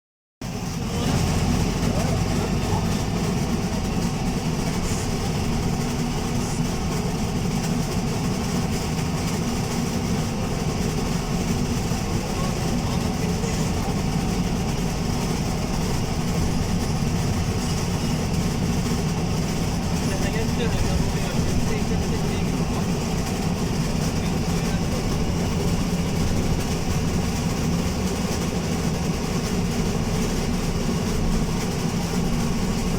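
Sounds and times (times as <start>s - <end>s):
bus engine rumbling: 0.4s - 32.9s.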